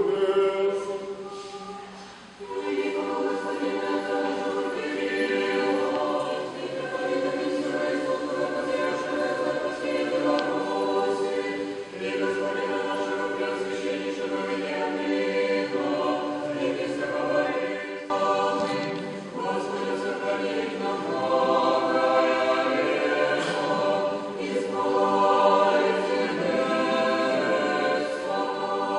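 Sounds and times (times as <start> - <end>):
choir singing a cappella: 0.0 - 28.9.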